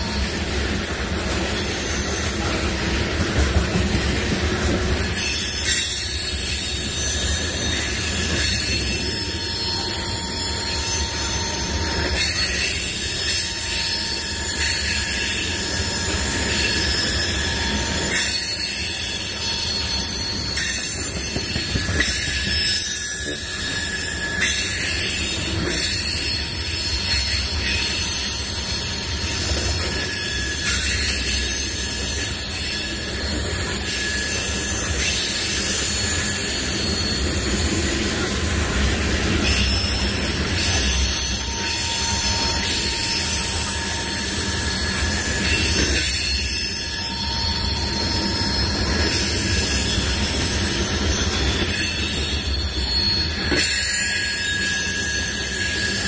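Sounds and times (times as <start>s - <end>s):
freight train rumbling past: 0.0s - 56.0s
wheels squealing on rails: 0.0s - 56.0s.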